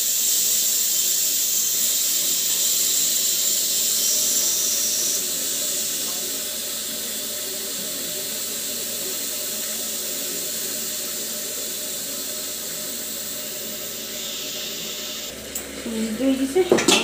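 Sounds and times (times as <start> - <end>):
pressure cooker venting steam: 0.0 - 17.0.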